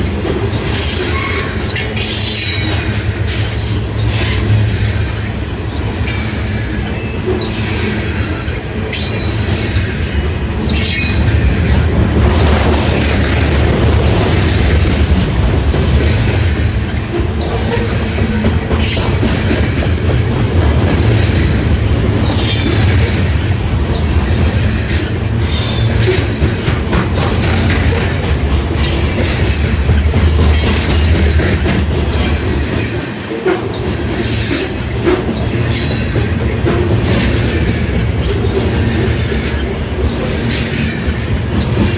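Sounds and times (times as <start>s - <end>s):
train cars rolling past: 0.0s - 41.9s.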